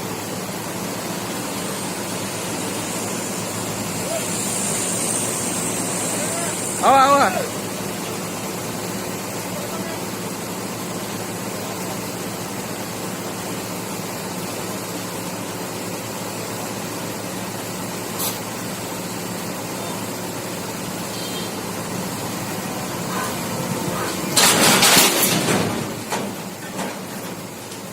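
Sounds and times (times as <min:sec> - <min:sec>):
engine machinery hum: 0:00.0 - 0:27.9.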